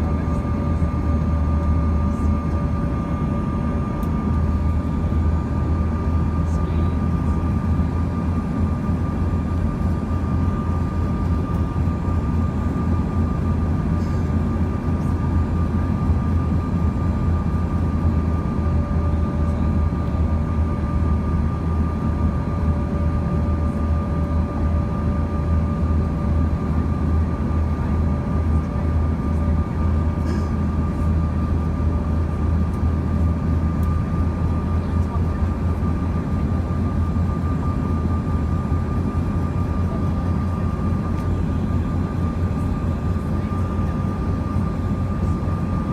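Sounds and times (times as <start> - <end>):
constant engine whine: 0.0 - 45.9
jet engine low rumble: 0.0 - 45.9.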